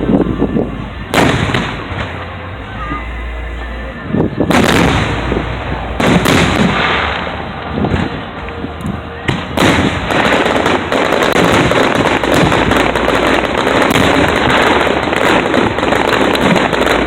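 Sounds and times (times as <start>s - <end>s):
fireworks bangs: 0.0s - 3.2s, 4.0s - 17.0s
fireworks crackle: 0.0s - 17.0s.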